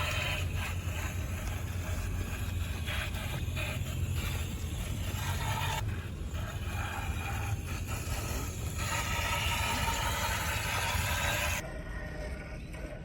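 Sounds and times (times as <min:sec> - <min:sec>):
toy truck electric motor: 0:00.0 - 0:13.0.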